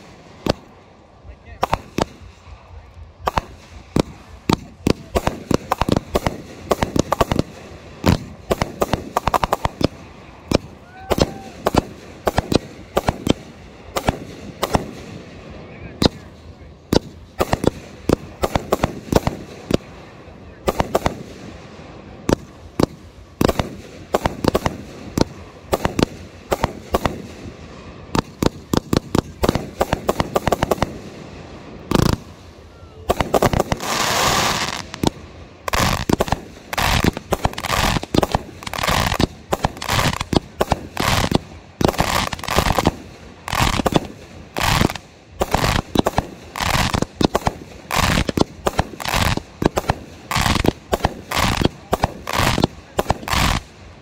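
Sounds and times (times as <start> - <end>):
firework bangs: 0.0 - 54.0
fireworks hissing: 0.0 - 54.0.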